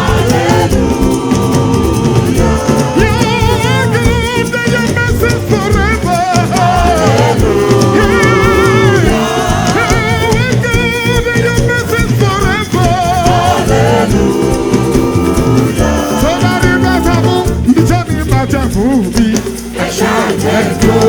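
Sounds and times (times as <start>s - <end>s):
band and drums: 0.0s - 21.0s
gospel singing with vibrato: 0.0s - 21.0s.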